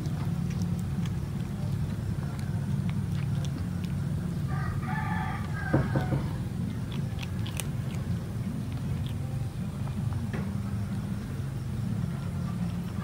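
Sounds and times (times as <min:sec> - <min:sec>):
kitten crunching dry kibble: 0:00.0 - 0:13.0
steady low hum: 0:00.0 - 0:13.0.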